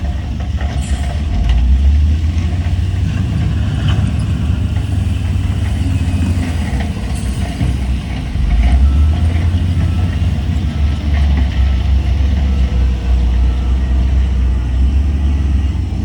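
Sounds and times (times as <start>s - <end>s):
heavy diesel engine rumbling: 0.0s - 16.0s.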